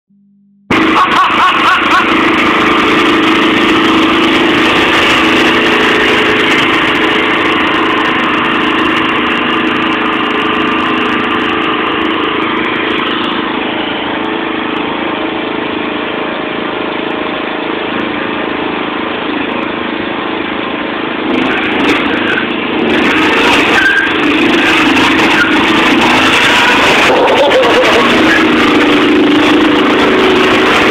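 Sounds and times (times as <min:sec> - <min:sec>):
riding lawn mower engine running: 0:00.7 - 0:30.9.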